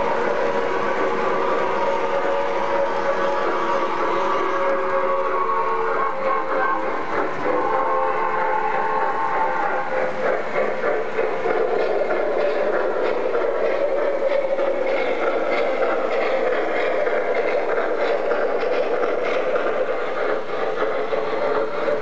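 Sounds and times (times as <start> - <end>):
model train hum: 0.0 - 22.0
wheels clicking on rails: 0.0 - 22.0.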